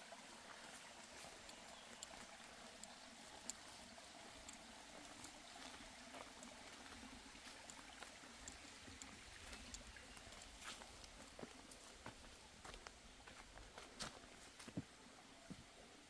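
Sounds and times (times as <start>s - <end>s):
mountain stream rushing: 0.0s - 16.0s
light ticks: 0.5s - 14.2s.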